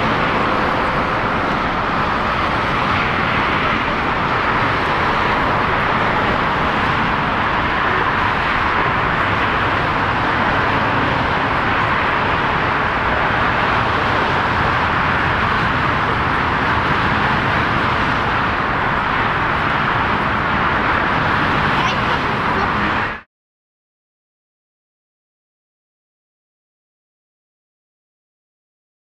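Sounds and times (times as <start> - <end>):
airport roar: 0.0 - 23.3.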